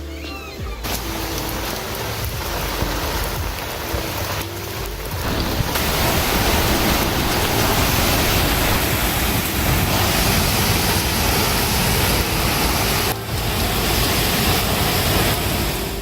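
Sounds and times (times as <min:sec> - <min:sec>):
heavy rain pouring: 0:00.6 - 0:16.0.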